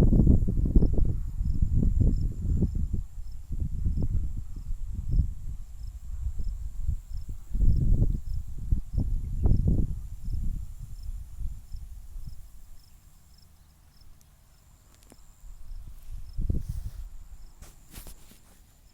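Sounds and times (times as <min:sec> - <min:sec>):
wind rumble on microphone: 0:00.0 - 0:13.4, 0:15.2 - 0:18.3.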